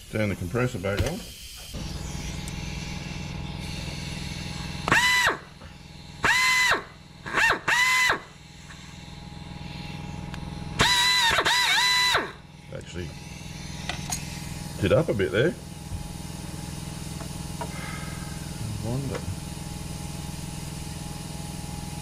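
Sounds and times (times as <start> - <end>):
air compressor humming: 0.0 - 22.0
air drill whining: 0.0 - 22.0.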